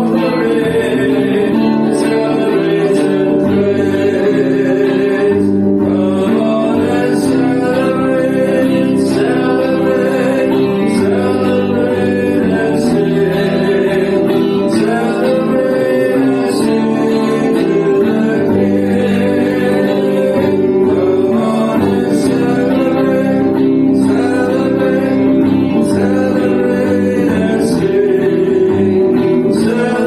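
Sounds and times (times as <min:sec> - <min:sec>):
worship song singing: 0:00.0 - 0:30.0.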